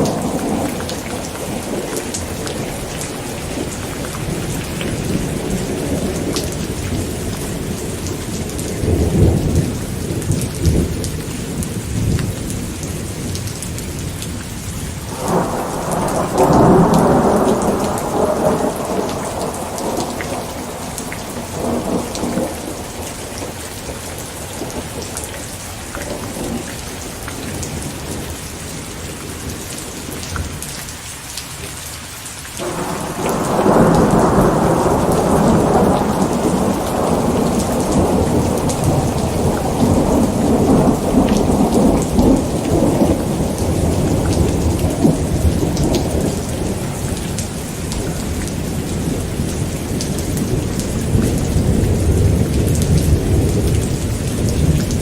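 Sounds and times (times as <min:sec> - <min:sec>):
thunder rumbling: 0:00.0 - 0:14.3, 0:15.0 - 0:30.6, 0:32.6 - 0:55.0
steady rain falling: 0:00.0 - 0:55.0.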